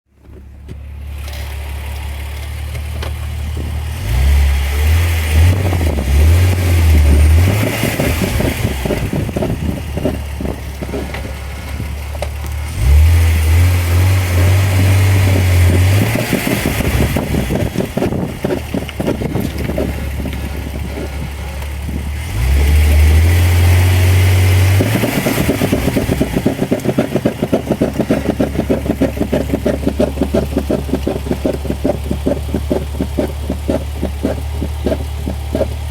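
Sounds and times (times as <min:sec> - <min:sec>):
car engine revving: 0:01.0 - 0:35.9.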